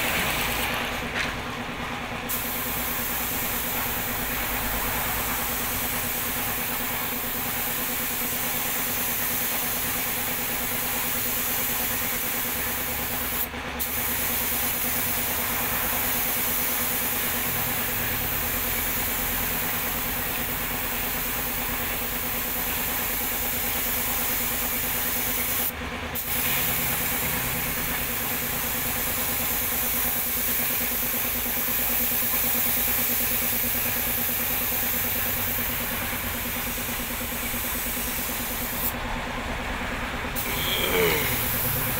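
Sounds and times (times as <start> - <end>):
air compressor hum: 0.0 - 41.9
paint spray gun hissing: 2.3 - 39.0, 40.4 - 41.9.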